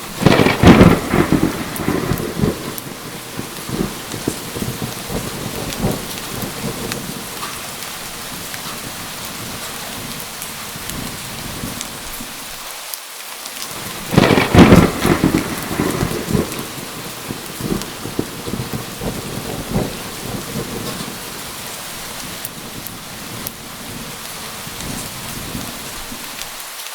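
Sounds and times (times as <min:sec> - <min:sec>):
thunder rumbling: 0:00.0 - 0:12.6, 0:13.6 - 0:26.6
heavy rain: 0:00.0 - 0:26.9.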